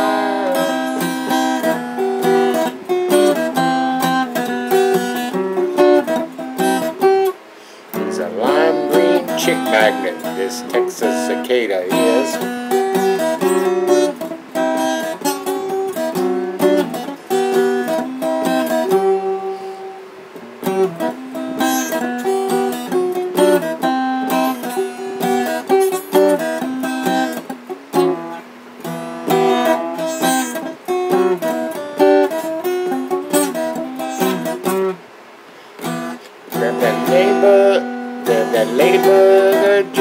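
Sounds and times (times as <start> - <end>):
acoustic guitar strummed and picked: 0.0 - 40.0.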